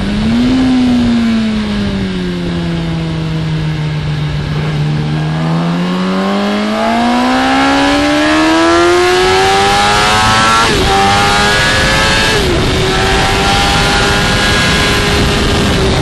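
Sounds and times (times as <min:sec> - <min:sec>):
motorcycle engine revving: 0:00.0 - 0:16.0
wind noise on microphone: 0:00.0 - 0:16.0.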